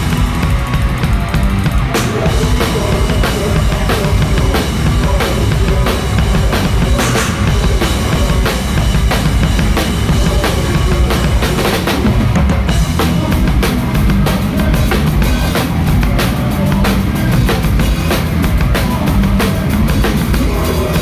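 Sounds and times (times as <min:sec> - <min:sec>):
drum kit: 0:00.0 - 0:21.0
hardcore band playing live: 0:00.0 - 0:21.0.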